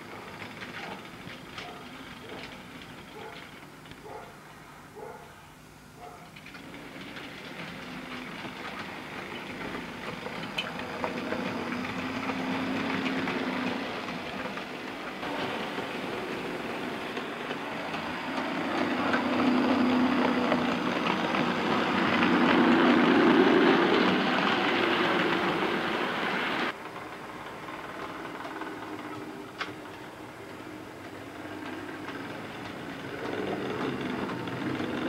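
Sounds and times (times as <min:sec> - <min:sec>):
wheels clicking over rail joints: 0:00.0 - 0:04.4, 0:06.2 - 0:35.0
model train motor hum: 0:06.3 - 0:35.0.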